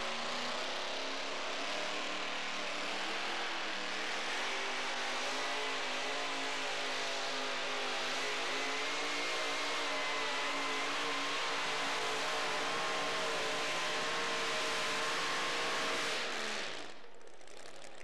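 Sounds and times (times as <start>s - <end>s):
truck engine at high revs: 0.0s - 18.0s.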